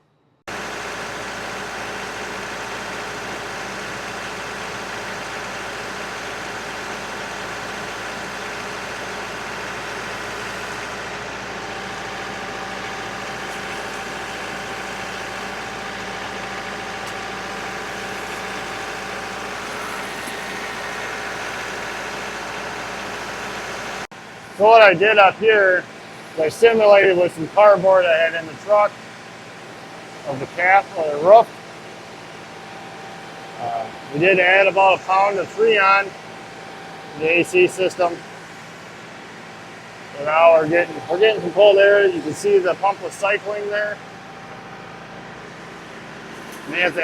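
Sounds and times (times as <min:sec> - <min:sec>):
tractor diesel engine running: 0:00.4 - 0:47.0
air conditioning running: 0:00.5 - 0:47.0.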